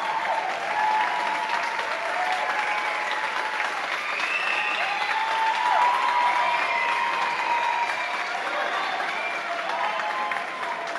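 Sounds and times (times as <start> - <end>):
audience applauding: 0.0 - 10.9
drawn-out cheering: 0.0 - 10.9.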